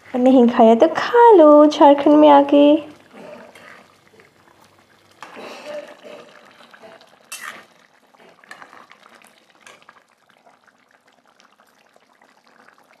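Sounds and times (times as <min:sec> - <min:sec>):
thick gravy bubbling in a pot: 0:00.0 - 0:13.0.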